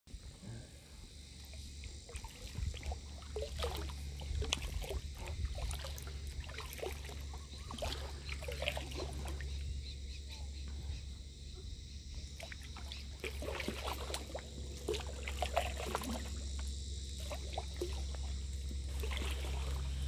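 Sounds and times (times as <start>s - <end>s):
paddle splashes and drips: 1.3s - 10.0s, 12.1s - 20.0s.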